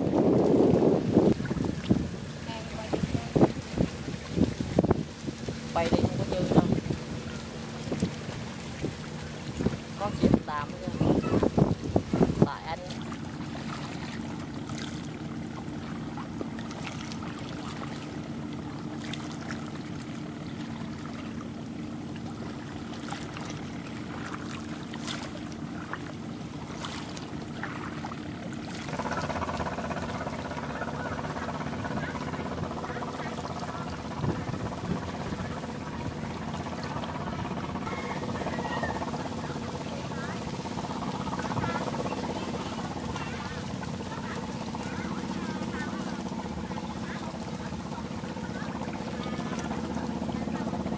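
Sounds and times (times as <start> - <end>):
boat diesel engine drone: 0.0 - 50.9
water lapping: 0.0 - 50.9.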